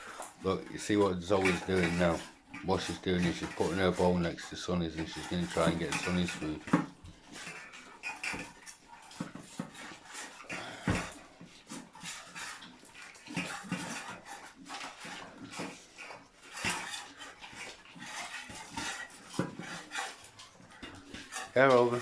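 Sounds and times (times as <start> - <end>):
dogs chewing food: 0.0 - 22.0
food bowls clicking and knocking: 0.0 - 22.0.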